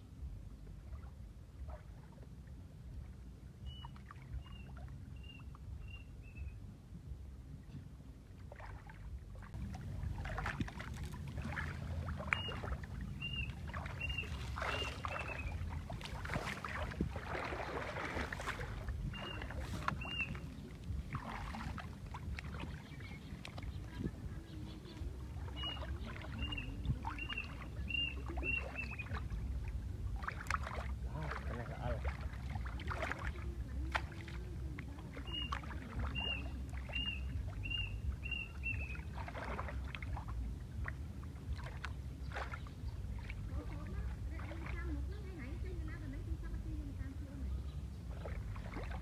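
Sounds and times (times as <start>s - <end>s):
steady low rumble: 0.0s - 49.0s
water sloshing and splashing: 0.1s - 6.2s, 7.7s - 49.0s.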